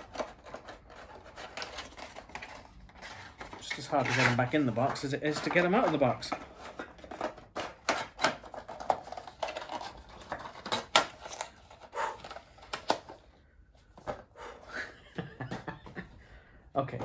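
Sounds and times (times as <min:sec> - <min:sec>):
cardboard and plastic packaging rustling: 0:00.0 - 0:14.3.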